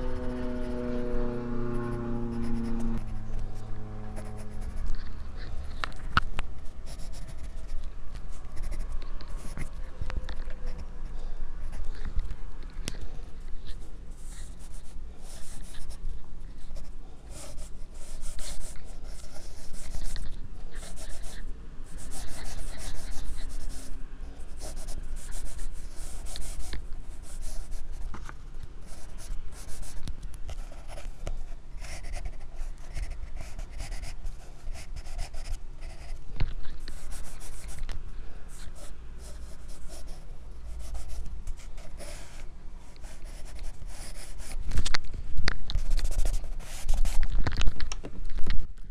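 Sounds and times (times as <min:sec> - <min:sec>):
pencil scratching on paper: 0:01.6 - 0:10.9, 0:13.7 - 0:28.1, 0:28.8 - 0:37.9, 0:38.5 - 0:44.6, 0:45.8 - 0:47.3.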